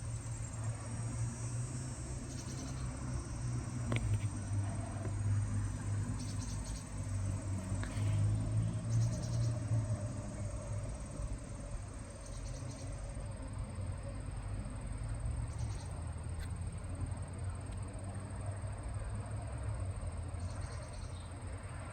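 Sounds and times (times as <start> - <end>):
distant road traffic rumble: 0.0 - 21.9.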